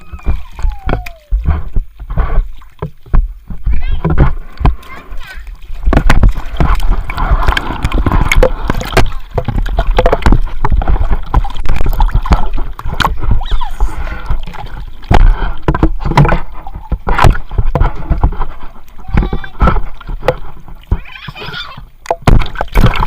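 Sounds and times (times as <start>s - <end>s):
water splashing in a pool: 0.0s - 23.0s.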